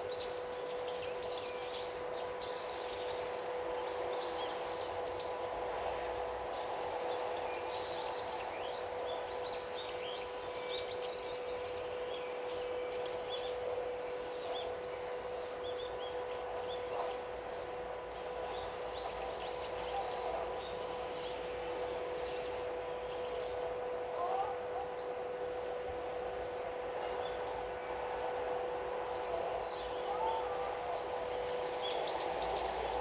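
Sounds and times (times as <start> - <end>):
small birds chirping: 0.0 - 28.0
faint hum: 0.0 - 33.0.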